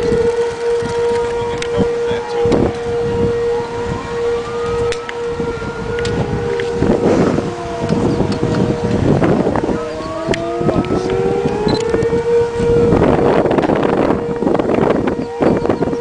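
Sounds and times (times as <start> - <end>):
tornado sirens wailing: 0.0 - 16.0
wind buffeting microphone: 0.0 - 16.0.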